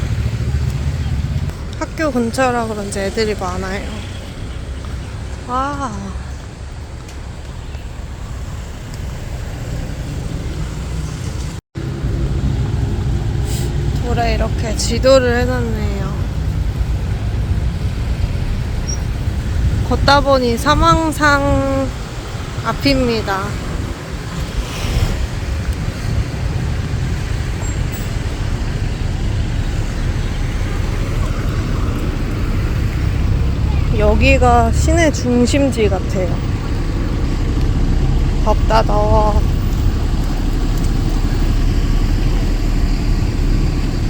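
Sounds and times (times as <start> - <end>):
street traffic rumble: 0.0 - 44.0.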